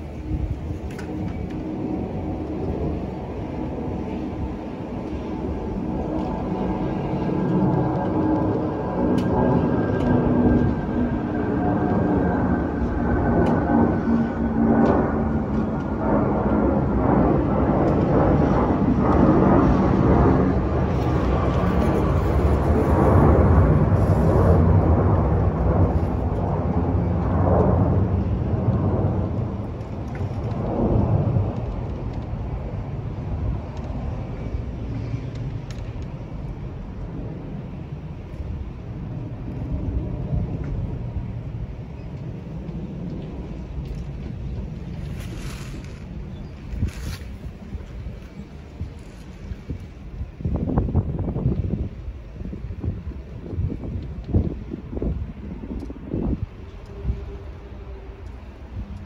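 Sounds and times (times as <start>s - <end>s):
jet engines roaring overhead: 0.0s - 59.0s.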